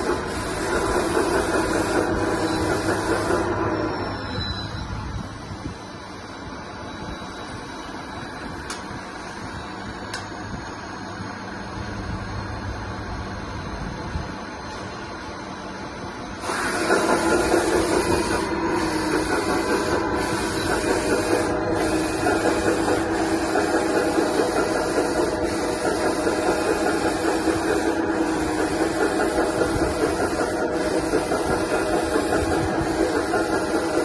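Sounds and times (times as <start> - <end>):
hydraulic pump and motors whirring: 0.0 - 34.0.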